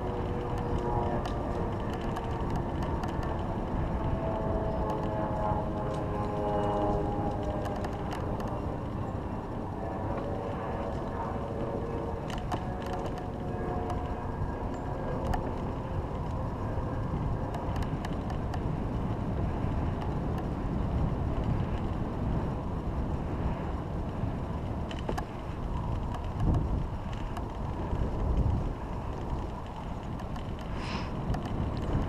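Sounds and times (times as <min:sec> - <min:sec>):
bicycle tyres rumbling on asphalt: 0:00.0 - 0:32.0
bike clicks and rattles: 0:00.0 - 0:32.0
wind noise on microphone: 0:00.0 - 0:32.0.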